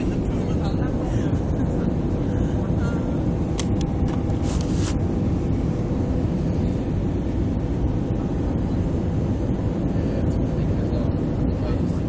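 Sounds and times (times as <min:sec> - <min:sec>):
airplane cabin engine rumble: 0:00.1 - 0:12.0.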